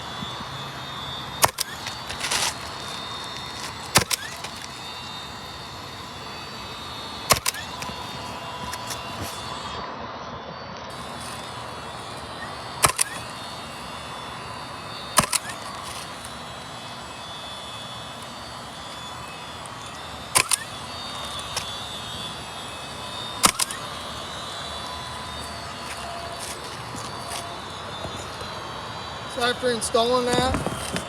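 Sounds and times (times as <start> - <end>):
nail gun firing: 0.0 - 9.6, 10.9 - 28.4.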